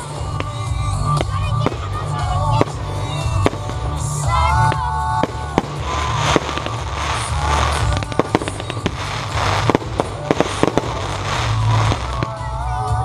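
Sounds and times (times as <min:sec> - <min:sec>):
fireworks bangs: 0:00.0 - 0:12.5
fireworks crackling: 0:00.0 - 0:13.0.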